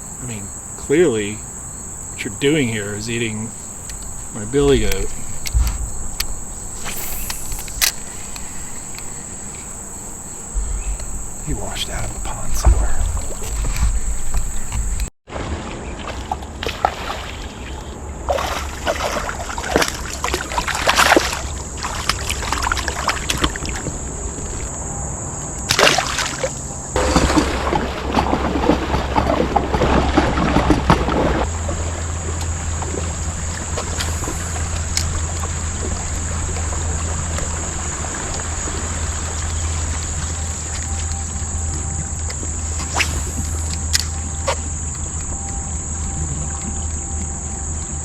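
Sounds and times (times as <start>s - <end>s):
water splashing against kayak: 2.0s - 23.9s, 25.7s - 47.6s.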